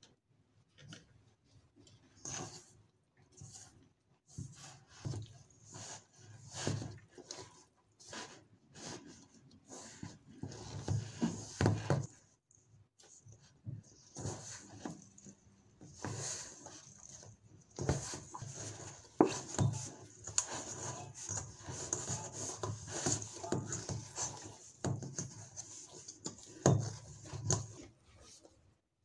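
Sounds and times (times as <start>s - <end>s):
dough squishing: 3.4s - 28.8s.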